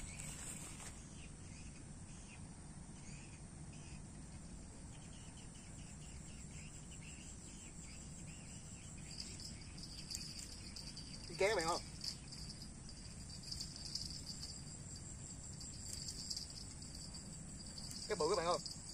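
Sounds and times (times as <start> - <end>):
insect chorus buzzing and chirping: 0.0 - 18.9.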